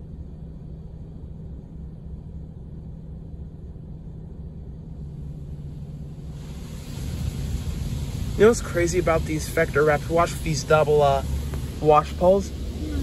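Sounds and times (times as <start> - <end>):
constant low hum: 0.0 - 13.0
muffled car wash rumble and spray: 0.0 - 13.0.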